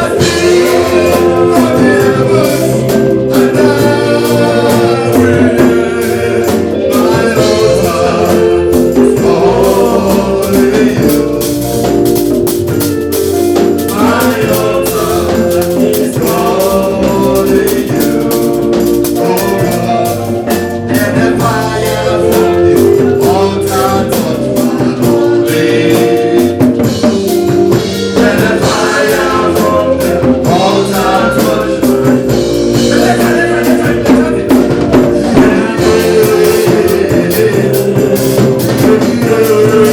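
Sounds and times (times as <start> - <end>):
drum kit beat: 0.0 - 39.9
gospel singing: 0.0 - 39.9.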